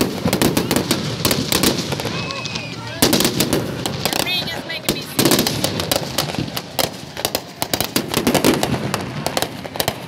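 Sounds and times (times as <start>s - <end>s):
fireworks bang: 0.0s - 10.0s
fireworks cracking and popping: 0.0s - 10.0s.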